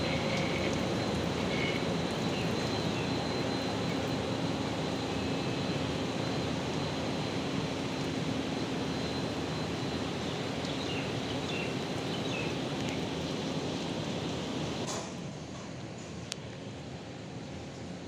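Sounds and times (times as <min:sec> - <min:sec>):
ventilation fan running: 0:00.0 - 0:14.9.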